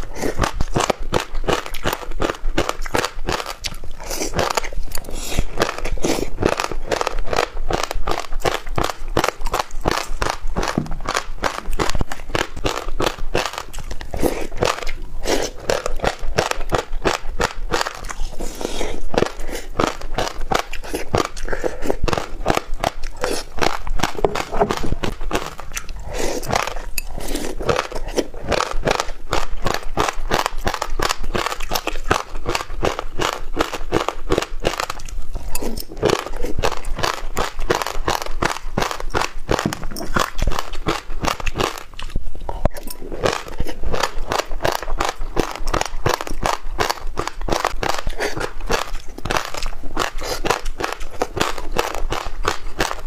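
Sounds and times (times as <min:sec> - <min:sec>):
crunching seeds while chewing: 0:00.0 - 0:53.0.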